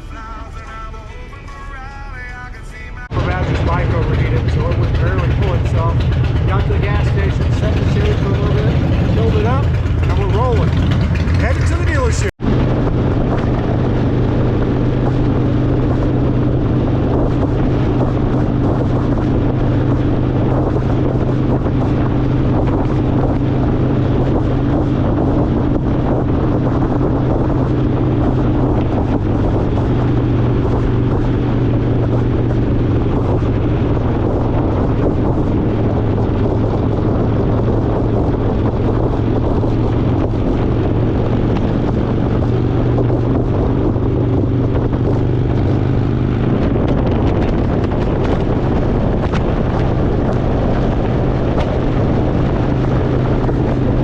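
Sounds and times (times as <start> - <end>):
motorcycle engine cruising: 0.0 - 54.0
wind buffeting microphone: 3.0 - 54.0.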